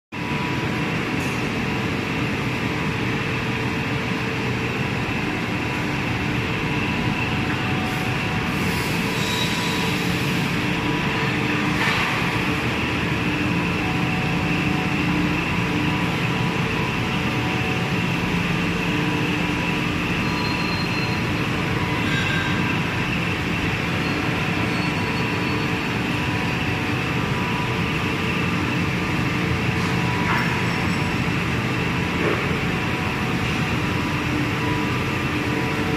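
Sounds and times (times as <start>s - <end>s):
machinery mechanical drone: 0.2s - 35.9s.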